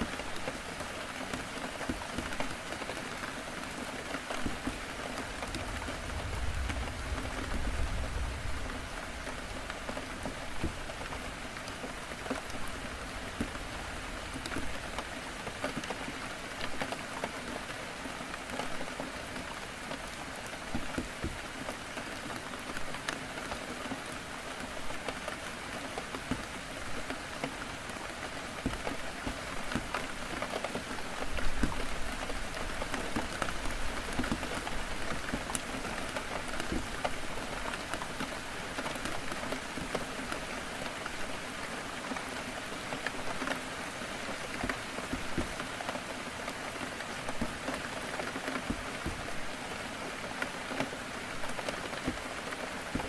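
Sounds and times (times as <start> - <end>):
heavy rain pattering on a window: 0.0 - 53.0.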